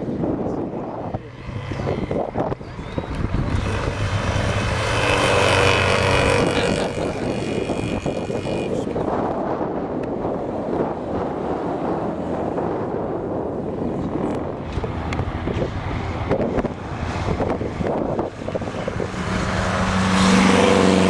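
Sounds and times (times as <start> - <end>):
engine passing by: 0.5 - 9.2, 10.9 - 21.0.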